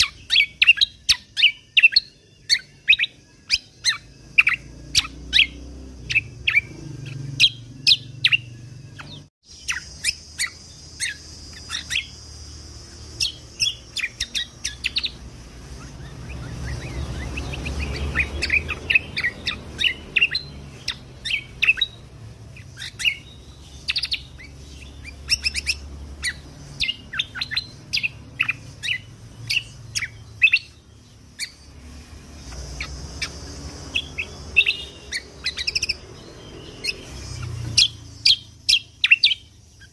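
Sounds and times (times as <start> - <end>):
songbird singing high chirps: 0.0 - 39.9.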